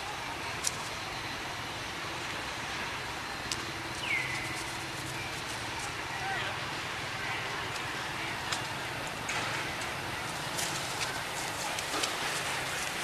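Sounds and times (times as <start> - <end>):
distant motor vehicles hum: 0.0 - 13.0.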